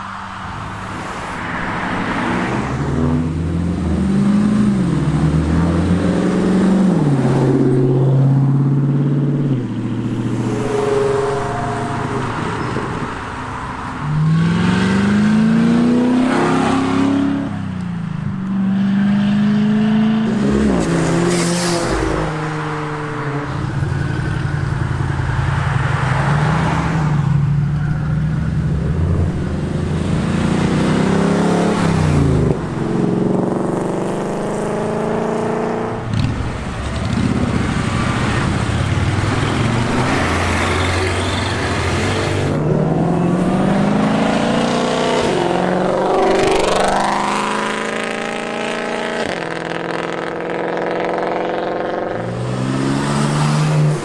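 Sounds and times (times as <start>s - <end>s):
cars accelerating past: 0.0s - 54.0s.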